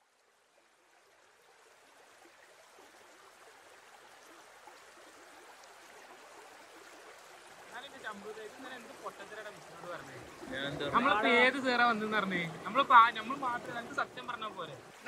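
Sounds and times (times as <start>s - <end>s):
stream babbling: 0.0s - 15.0s.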